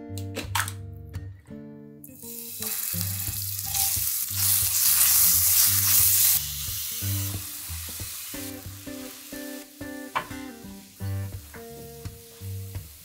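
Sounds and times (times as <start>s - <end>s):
vegetables sizzling in a frying pan: 2.1s - 13.0s.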